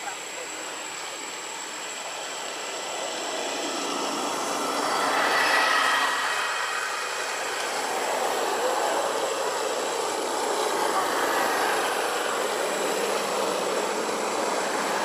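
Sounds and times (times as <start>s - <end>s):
motor vehicle passing by: 2.2s - 15.0s.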